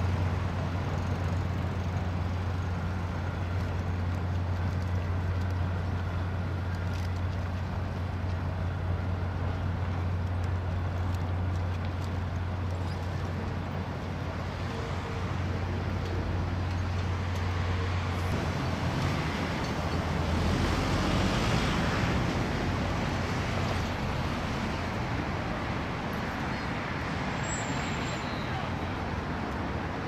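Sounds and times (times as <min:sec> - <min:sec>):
city traffic noise: 0:00.0 - 0:30.0.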